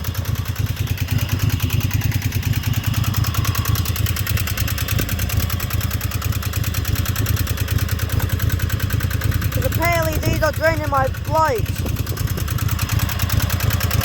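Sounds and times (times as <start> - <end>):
small lawnmower engine idling: 0.0 - 14.0.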